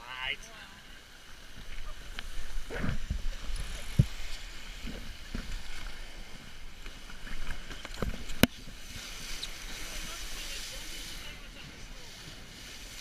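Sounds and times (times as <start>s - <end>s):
rush of water and wind: 0.0s - 13.0s.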